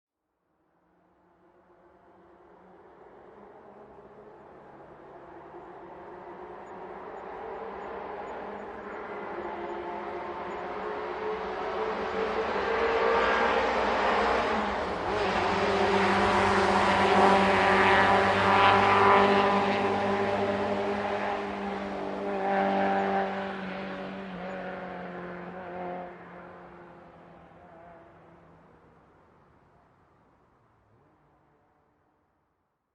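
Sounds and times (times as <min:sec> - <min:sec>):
rally car engine passing: 0:01.3 - 0:29.0.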